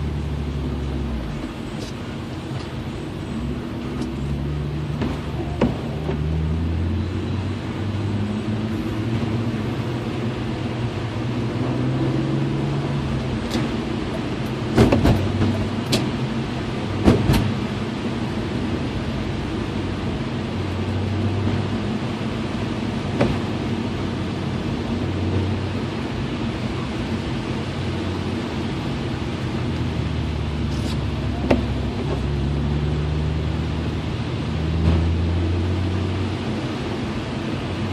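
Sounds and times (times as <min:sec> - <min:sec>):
car engine driving: 0:00.0 - 0:37.9.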